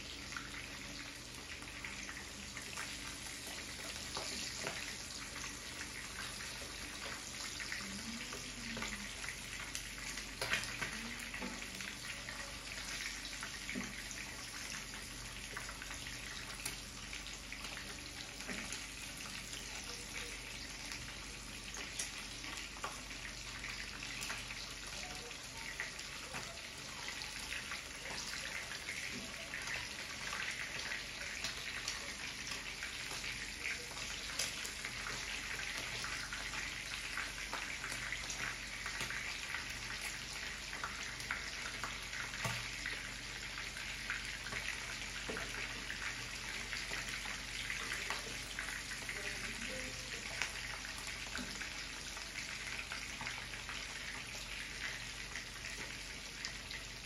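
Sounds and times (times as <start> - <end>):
meat and onion sizzling in oil: 0.0 - 57.0.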